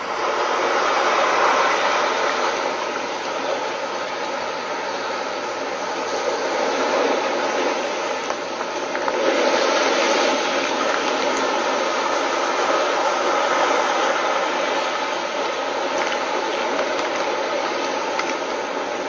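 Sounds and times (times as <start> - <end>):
sea waves splashing against rocks: 0.0 - 19.0.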